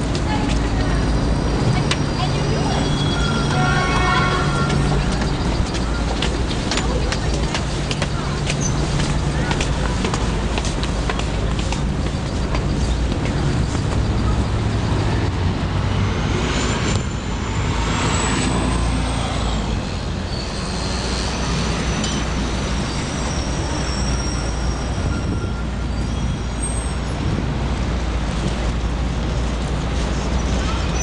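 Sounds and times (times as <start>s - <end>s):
road noise: 0.0s - 31.0s
traffic engine rumble: 0.0s - 31.0s.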